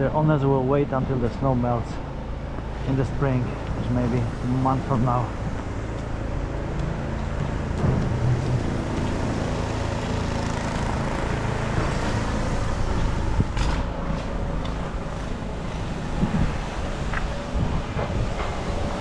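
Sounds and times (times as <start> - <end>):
traffic rumble: 0.0 - 18.5.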